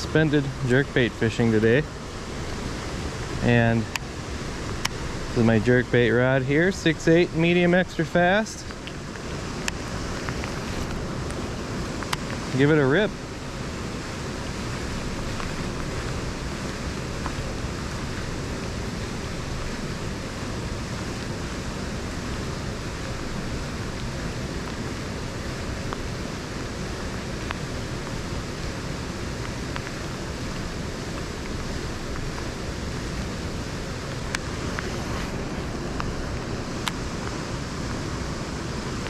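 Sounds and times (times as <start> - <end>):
wind and rain rushing: 0.0 - 39.0.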